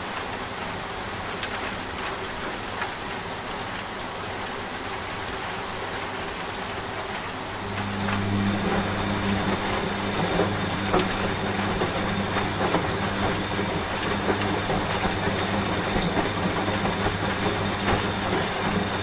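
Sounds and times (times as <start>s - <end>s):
rain pattering: 0.0s - 19.0s
washing machine humming: 0.0s - 19.0s.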